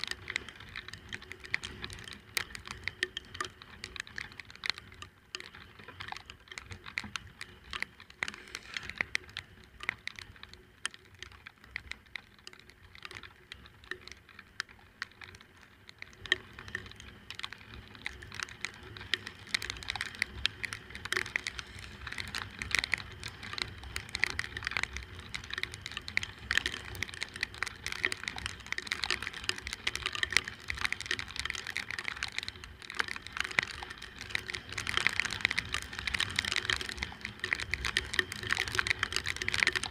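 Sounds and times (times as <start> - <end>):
raindrops hitting microphone: 0.0 - 39.9.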